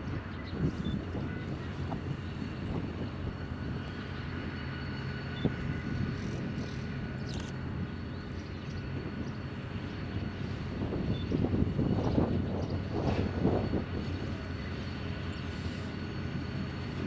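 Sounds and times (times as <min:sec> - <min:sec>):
faint high whines: 0:00.0 - 0:17.0
locomotive engine droning: 0:00.0 - 0:17.0.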